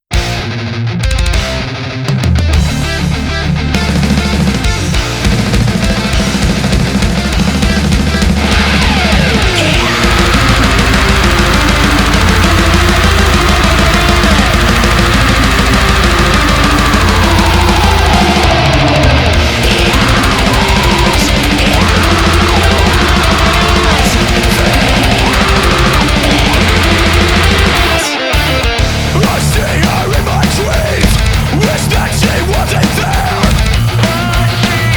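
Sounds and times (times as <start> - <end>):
heavy metal music: 0.0 - 34.9.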